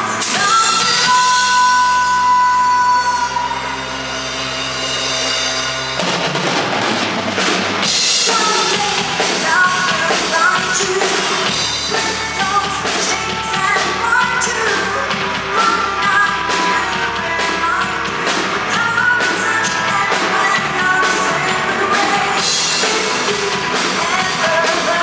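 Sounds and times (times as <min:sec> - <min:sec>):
drum kit: 0:00.0 - 0:25.0.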